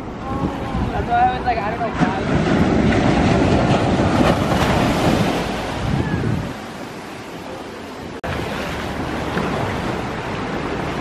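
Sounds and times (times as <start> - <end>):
small waves breaking on sand: 0.5 - 11.0.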